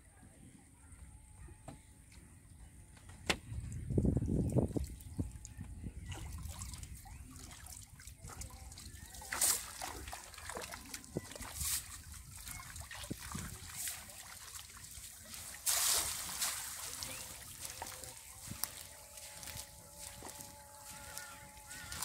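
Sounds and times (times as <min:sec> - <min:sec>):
water trickling and sloshing: 0:03.1 - 0:22.0
water splashes: 0:03.6 - 0:22.0.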